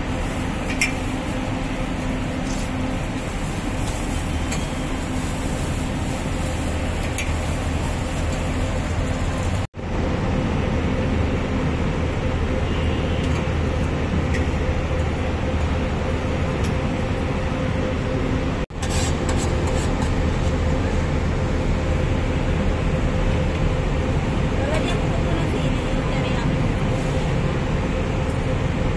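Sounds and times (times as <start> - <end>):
constant low hum: 0.0 - 28.9.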